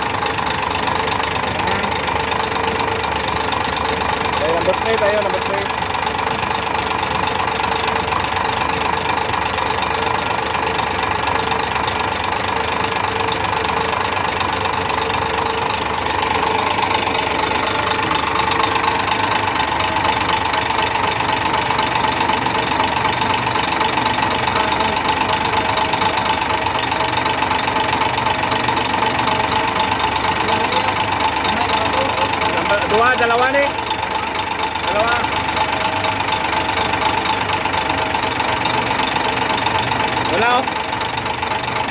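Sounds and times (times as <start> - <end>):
diesel engine idling with knocking: 0.0 - 41.9.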